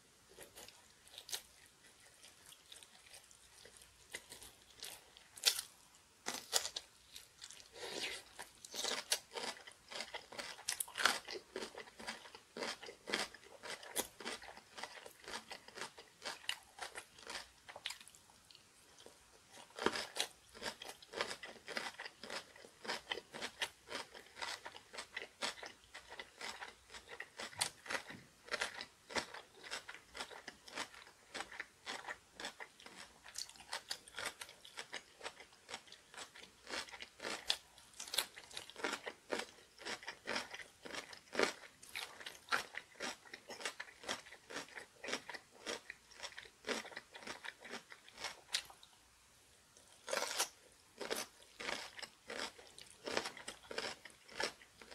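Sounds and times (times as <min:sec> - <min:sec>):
person chewing crunchy food: 0:00.3 - 0:49.0, 0:49.8 - 0:54.9.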